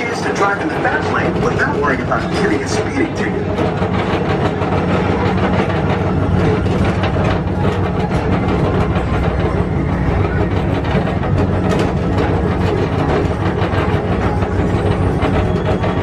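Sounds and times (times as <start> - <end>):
people mover car running on track: 0.0 - 16.0.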